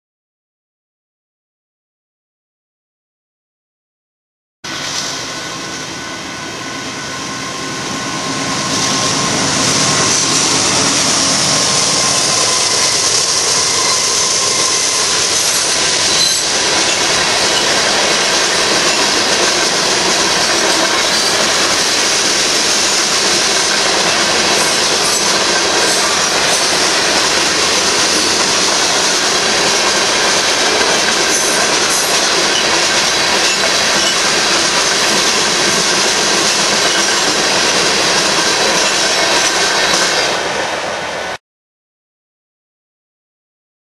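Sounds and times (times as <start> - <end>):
freight train wheels rumbling on rails: 4.7 - 41.4.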